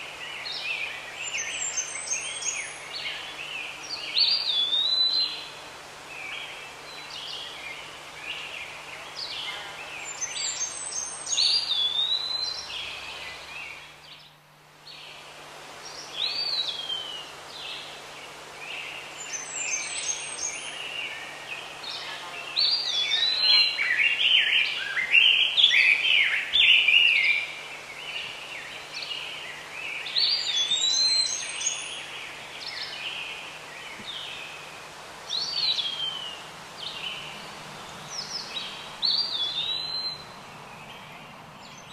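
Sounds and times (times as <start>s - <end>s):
wild birds calling and singing: 0.0s - 41.9s.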